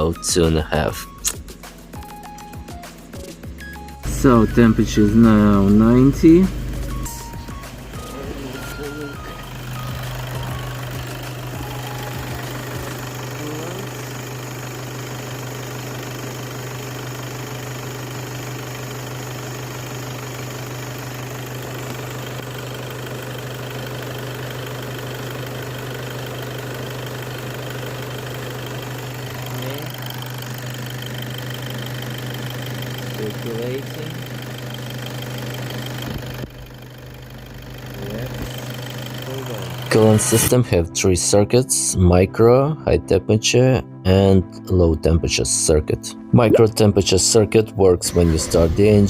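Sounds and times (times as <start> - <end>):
diesel engine running: 0.0 - 41.4, 46.1 - 49.0.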